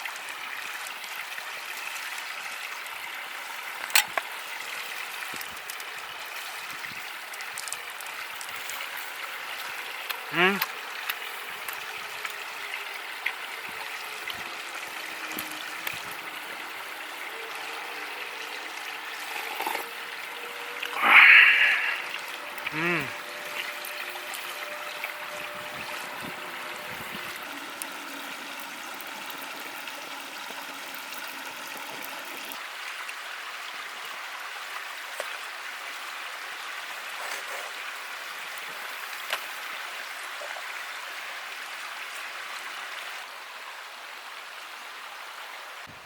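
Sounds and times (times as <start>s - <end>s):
running water: 0.0s - 46.0s.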